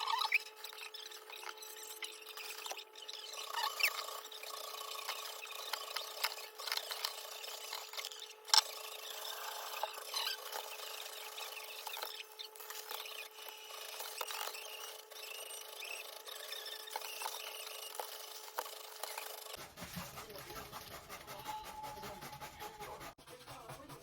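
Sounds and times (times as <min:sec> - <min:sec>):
rubbing and scraping: 0:00.0 - 0:24.0.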